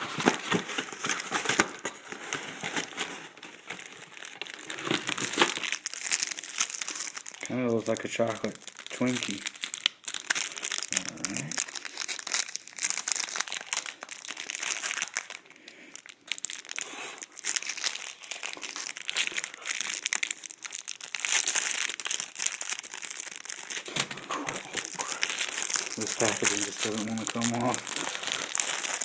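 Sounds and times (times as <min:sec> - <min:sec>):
plastic wrapper crinkling: 0:00.0 - 0:29.0.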